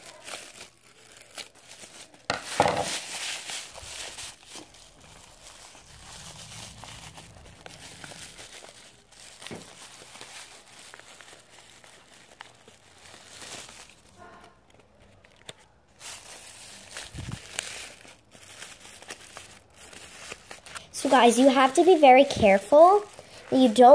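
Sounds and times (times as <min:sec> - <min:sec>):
paper rustling: 0:00.0 - 0:23.9
plastic bag crinkling: 0:00.0 - 0:23.9.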